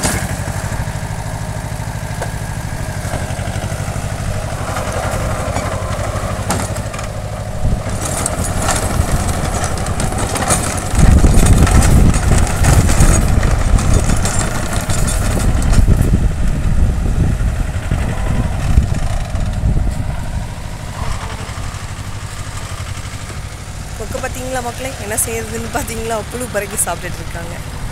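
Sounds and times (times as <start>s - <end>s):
rotary tiller churning soil: 0.0s - 27.9s
tractor diesel engine under load: 0.0s - 27.9s.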